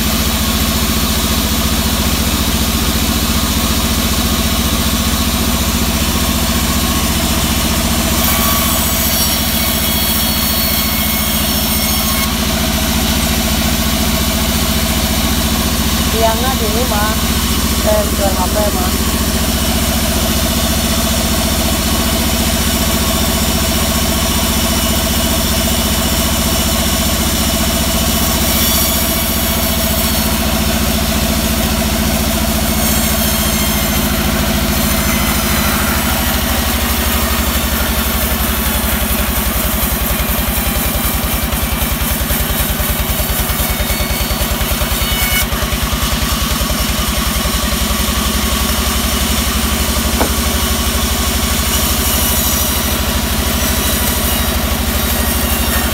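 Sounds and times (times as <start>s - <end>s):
band saw ripping a log: 4.0s - 55.9s.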